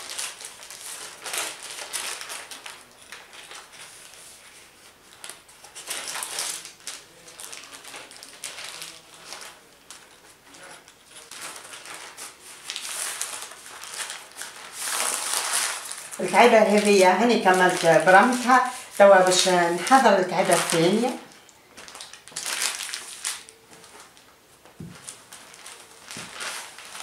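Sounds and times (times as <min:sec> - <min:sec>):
baking paper rustling and crinkling: 0:00.0 - 0:27.0.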